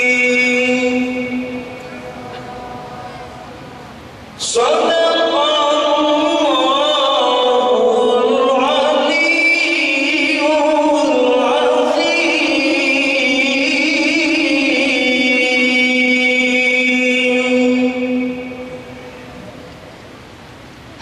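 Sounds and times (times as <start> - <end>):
man chanting melodically into microphone: 0.0 - 3.1, 4.4 - 19.1.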